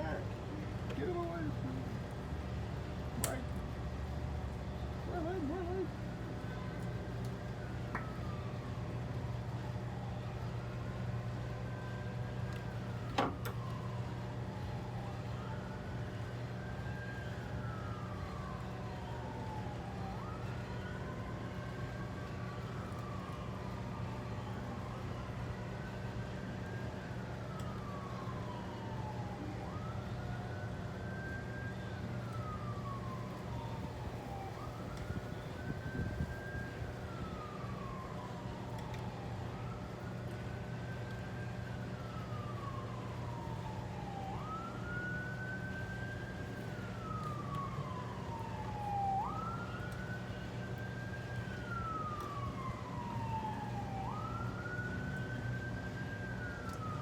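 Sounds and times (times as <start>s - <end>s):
siren wailing: 4.8s - 57.0s.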